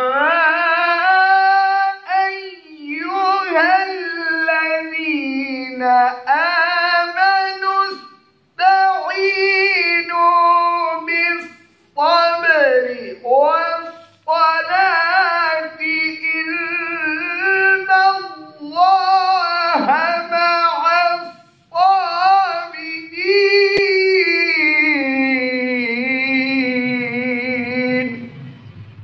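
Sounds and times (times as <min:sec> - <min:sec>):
man chanting: 0:00.0 - 0:28.5.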